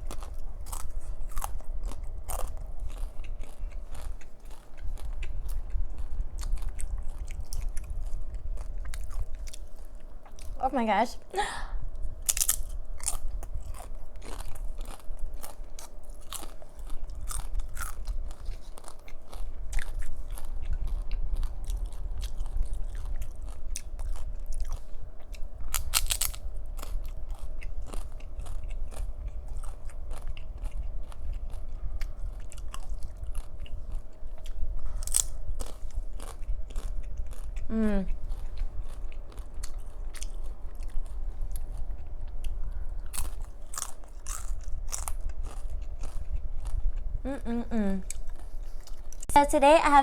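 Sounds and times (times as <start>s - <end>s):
chewing and crunching chips: 0.0s - 50.0s.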